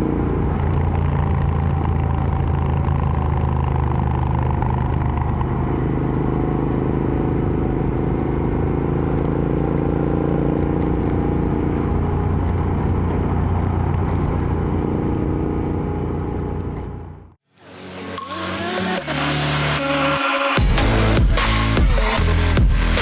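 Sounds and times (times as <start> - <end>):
motorcycle engine running: 0.0 - 17.4, 18.7 - 23.0.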